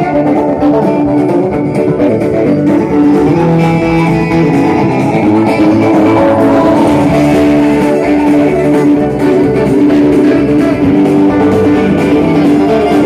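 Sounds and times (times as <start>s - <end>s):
guitars: 0.0s - 13.0s
live band playing loudly: 0.0s - 13.0s.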